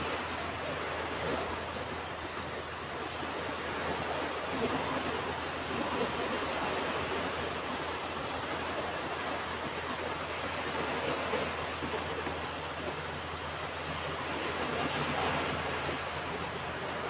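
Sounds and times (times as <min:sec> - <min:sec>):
ocean waves washing on beach: 0:00.0 - 0:17.0.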